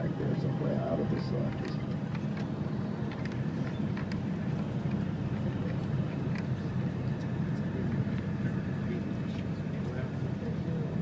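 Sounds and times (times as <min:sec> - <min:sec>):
coach engine and road noise: 0:00.0 - 0:11.0.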